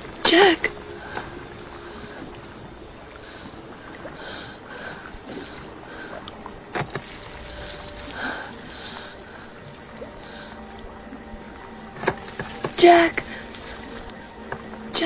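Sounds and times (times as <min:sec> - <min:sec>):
soft rowing sounds: 0:00.0 - 0:15.0.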